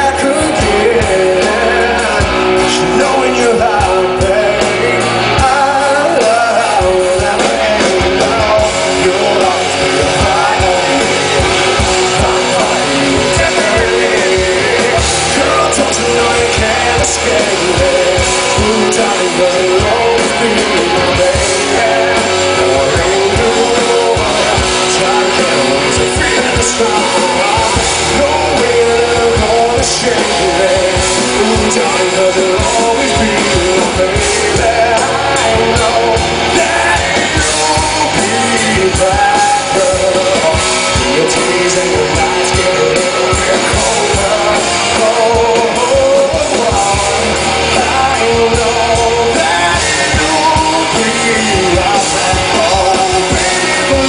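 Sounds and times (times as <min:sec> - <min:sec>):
electric guitar: 0:00.0 - 0:54.0
live rock band playing: 0:00.0 - 0:54.0
man singing: 0:00.0 - 0:54.0.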